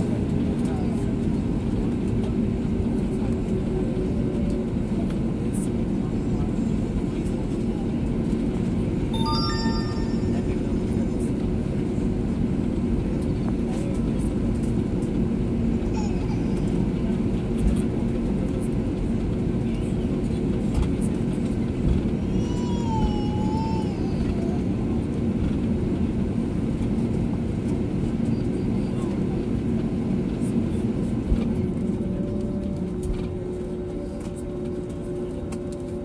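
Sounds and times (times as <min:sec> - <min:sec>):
airplane cabin rush and engine hum: 0:00.0 - 0:36.0.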